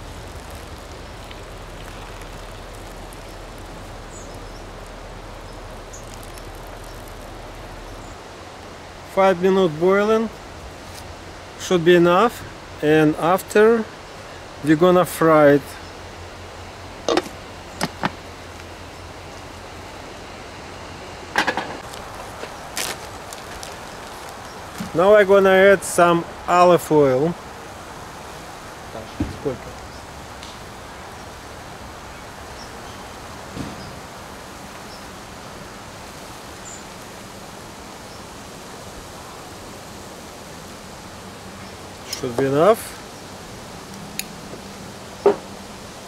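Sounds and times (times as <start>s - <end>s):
faint steady hum: 0.0s - 46.0s
steady hiss: 0.0s - 46.0s.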